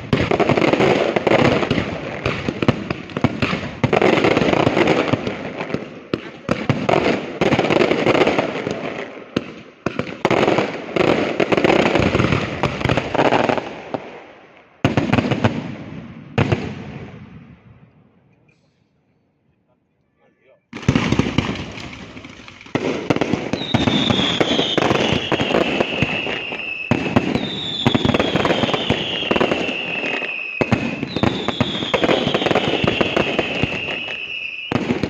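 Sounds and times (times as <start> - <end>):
fireworks bangs and crackling: 0.0 - 17.9, 20.7 - 35.0.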